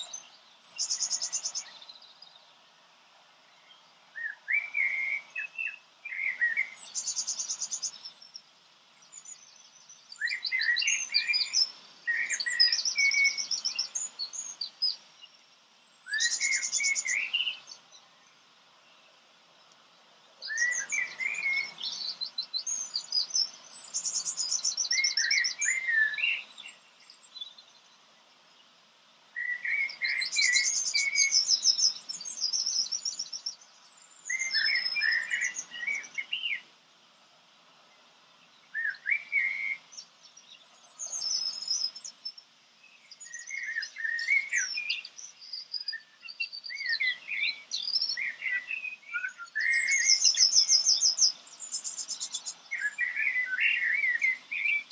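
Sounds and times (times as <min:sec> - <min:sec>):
songbird trilling and chirping: 0:00.0 - 0:02.6, 0:03.4 - 0:36.7, 0:38.4 - 0:54.9.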